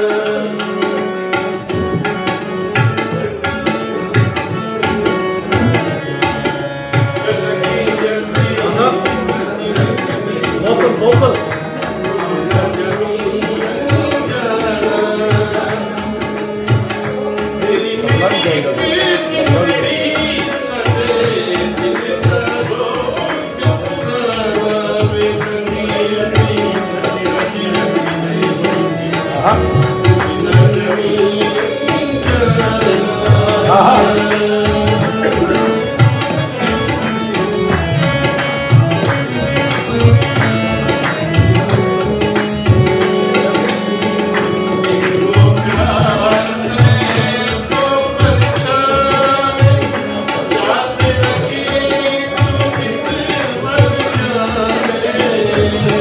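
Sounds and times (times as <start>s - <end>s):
harmonium melody: 0.0s - 56.0s
tabla strokes: 0.2s - 56.0s.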